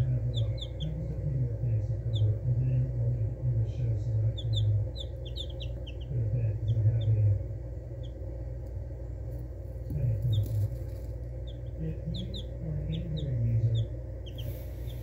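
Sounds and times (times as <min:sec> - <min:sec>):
chicks peeping: 0:00.0 - 0:15.0
loud low hum: 0:00.0 - 0:15.0.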